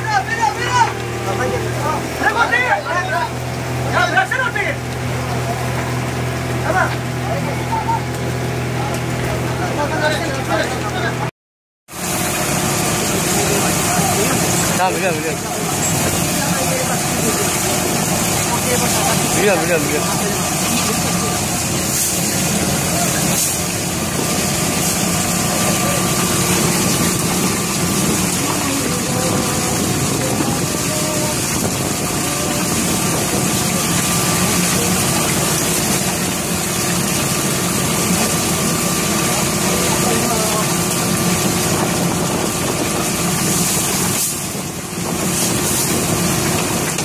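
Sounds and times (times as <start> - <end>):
boat engine and machinery drone: 0.0 - 11.3, 11.9 - 47.0.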